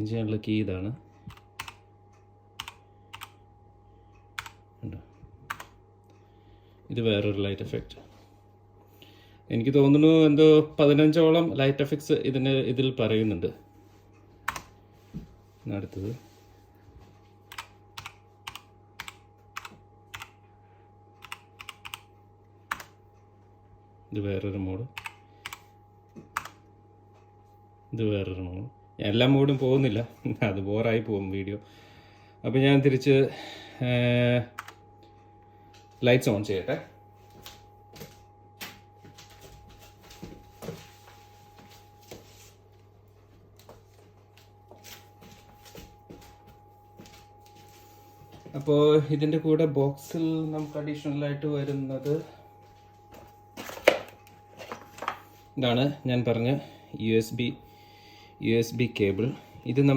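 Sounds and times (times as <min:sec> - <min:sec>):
faint electrical hum: 0:00.0 - 0:59.9.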